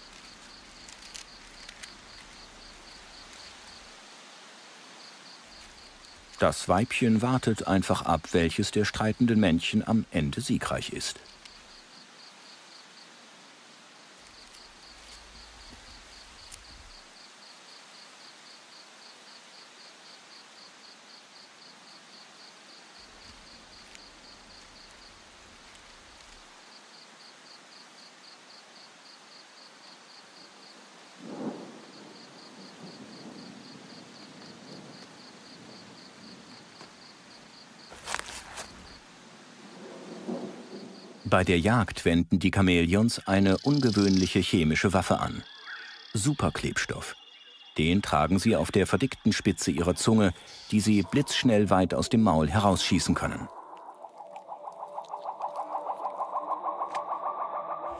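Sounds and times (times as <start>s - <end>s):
rustle: 0.0s - 47.3s
low background hiss: 0.0s - 55.2s
insect chirping: 0.0s - 57.9s.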